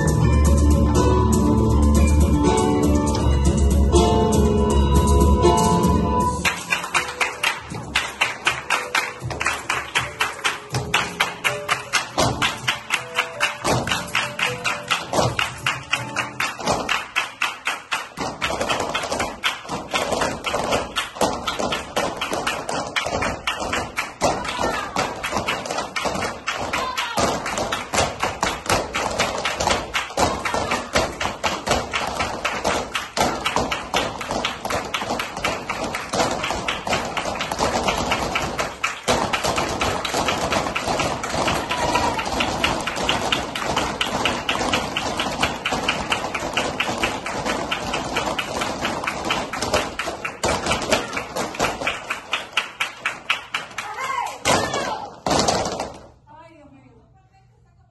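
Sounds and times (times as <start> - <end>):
hand clapping: 6.4 - 56.0
dancers stamping on wooden floor: 6.4 - 56.1.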